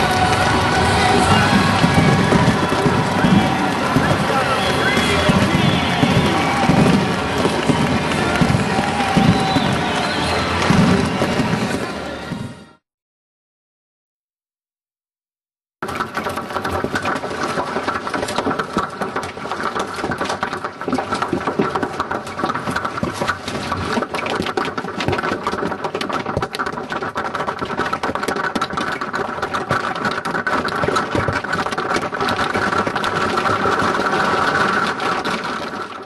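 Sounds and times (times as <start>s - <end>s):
hail clattering: 0.0s - 11.7s, 15.8s - 36.0s.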